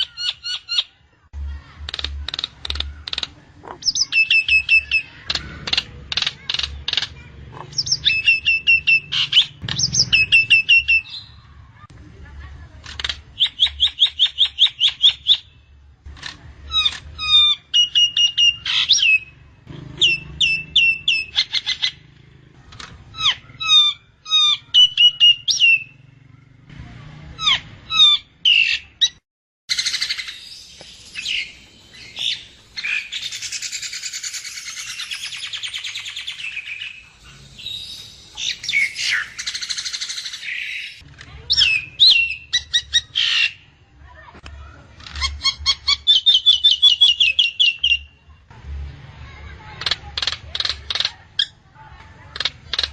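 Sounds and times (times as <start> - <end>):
harsh bird chattering: 0.0 - 1.0, 1.7 - 11.8, 12.8 - 15.6, 16.2 - 22.2, 23.1 - 26.2, 27.4 - 43.8, 45.0 - 48.2, 49.6 - 51.6, 52.2 - 52.9.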